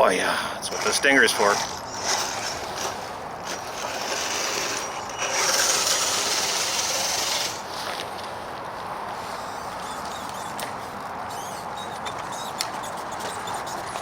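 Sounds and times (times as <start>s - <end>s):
rc truck electric motor and gears: 0.6s - 8.0s, 9.4s - 14.0s.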